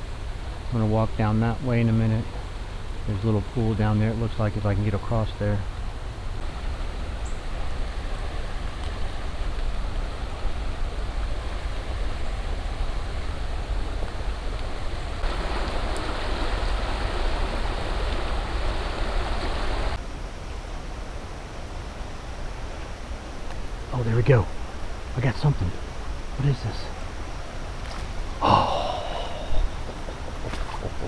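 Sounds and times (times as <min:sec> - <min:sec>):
creek water rushing: 0:02.2 - 0:20.0, 0:23.2 - 0:31.0.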